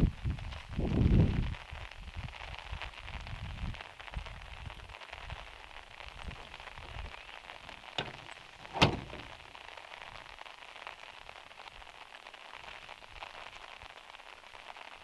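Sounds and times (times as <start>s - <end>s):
rain on a metal roof: 0.0s - 15.0s.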